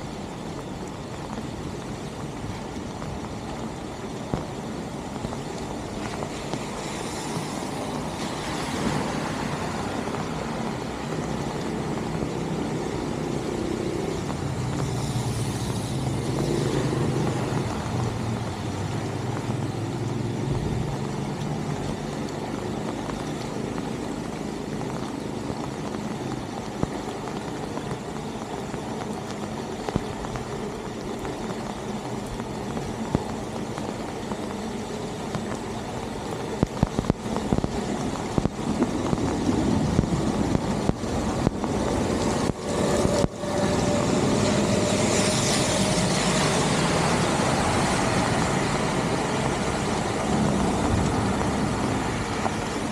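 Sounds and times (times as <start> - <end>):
rain falling: 0.0 - 52.9
water pouring into a storm drain: 0.0 - 52.9.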